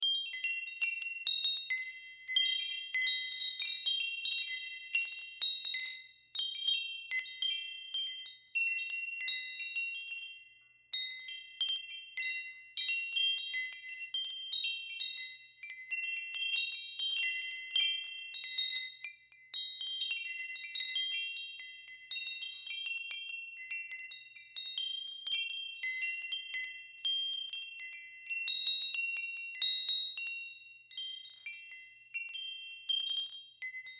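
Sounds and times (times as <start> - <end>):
wind chimes ringing: 0.0 - 33.9.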